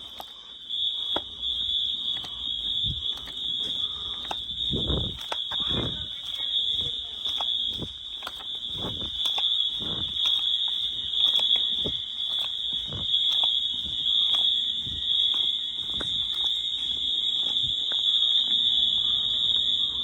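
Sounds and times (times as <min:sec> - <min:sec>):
fire alarm horns sounding: 0:00.0 - 0:20.0.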